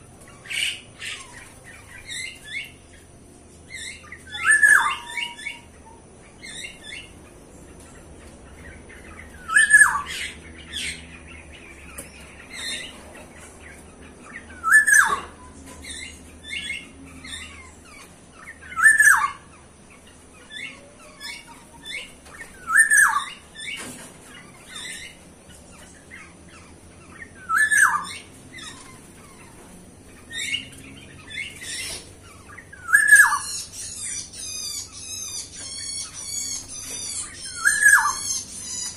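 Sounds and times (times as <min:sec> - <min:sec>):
rapid high bird twittering: 0:00.0 - 0:38.9.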